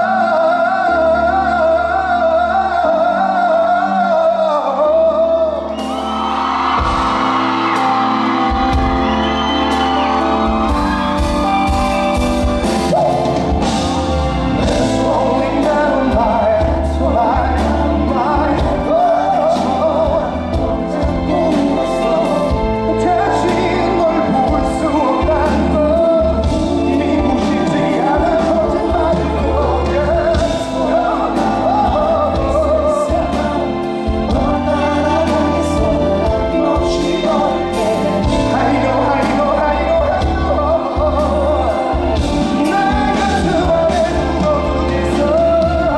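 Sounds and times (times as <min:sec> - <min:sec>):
man singing: 0:00.0 - 0:06.2, 0:06.8 - 0:45.9
band playing: 0:00.0 - 0:45.9.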